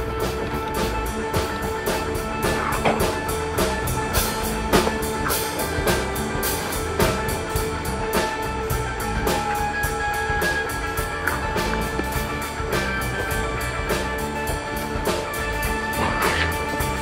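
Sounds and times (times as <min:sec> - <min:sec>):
drum kit beat: 0:00.0 - 0:17.0
instrumental band music: 0:00.0 - 0:17.0.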